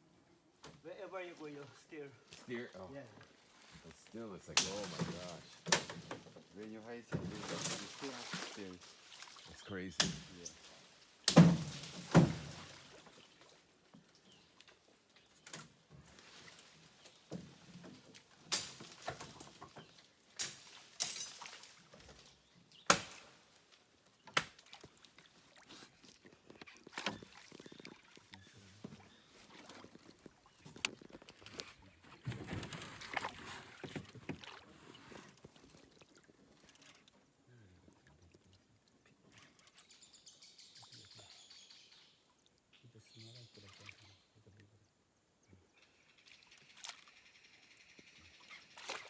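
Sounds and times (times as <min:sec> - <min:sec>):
faint background noise: 0:00.0 - 0:49.0
light water sounds: 0:00.6 - 0:49.0.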